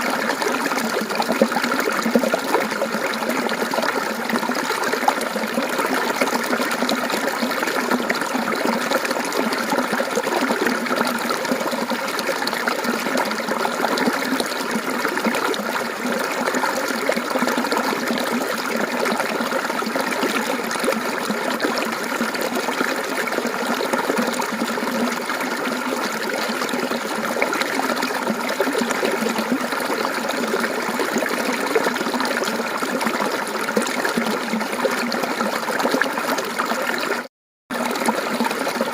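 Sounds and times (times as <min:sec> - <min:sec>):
stream water gurgling over rocks: 0:00.0 - 0:38.9.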